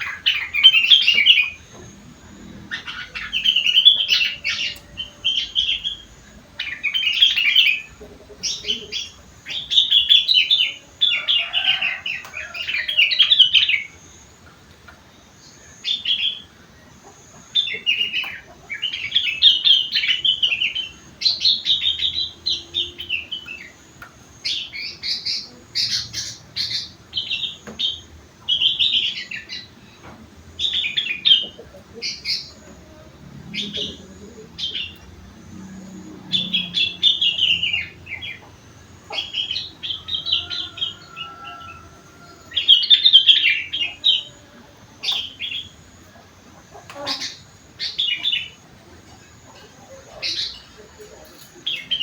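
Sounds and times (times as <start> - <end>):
bulbul singing chattering chirps: 0.0 - 52.0.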